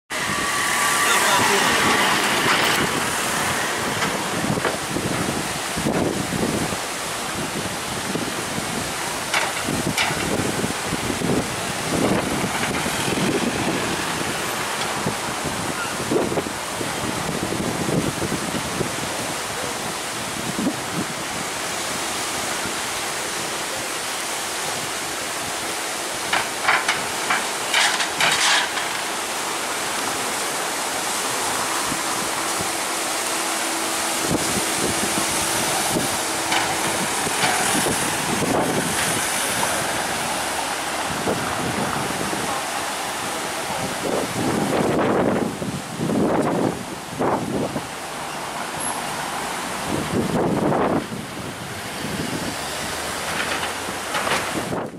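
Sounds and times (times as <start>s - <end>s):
street traffic: 0.0s - 54.9s
wind buffeting microphone: 0.1s - 54.9s.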